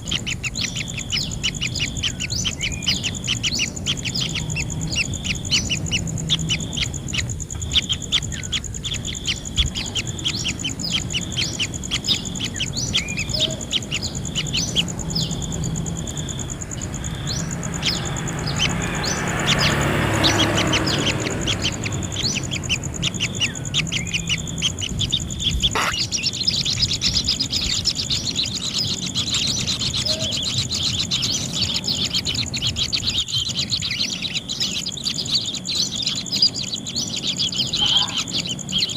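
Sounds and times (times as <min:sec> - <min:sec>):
nestlings chirping: 0:00.0 - 0:38.9
steady high-pitched whine: 0:00.0 - 0:38.9.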